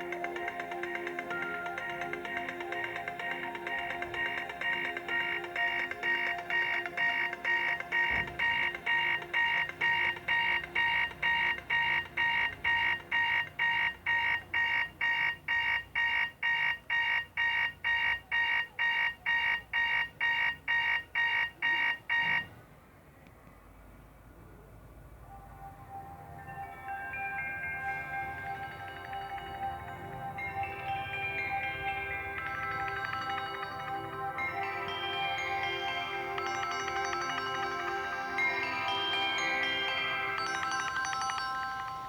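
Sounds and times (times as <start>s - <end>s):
lower ringtone notes: 0.0s - 22.5s, 25.3s - 42.0s
phone ringtone beeps: 0.0s - 22.5s, 25.5s - 42.0s.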